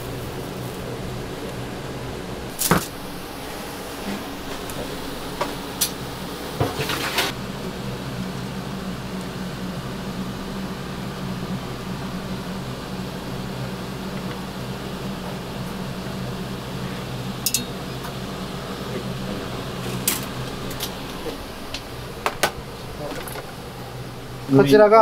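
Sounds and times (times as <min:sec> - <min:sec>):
kitchen ventilation hum: 0:00.0 - 0:25.0.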